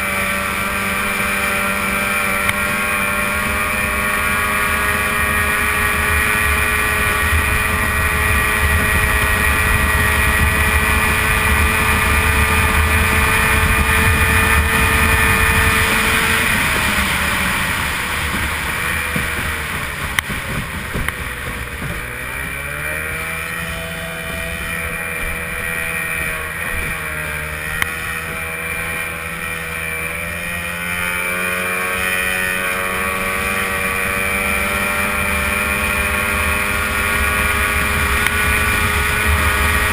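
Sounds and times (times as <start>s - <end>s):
racing outboard engine: 0.0s - 39.9s.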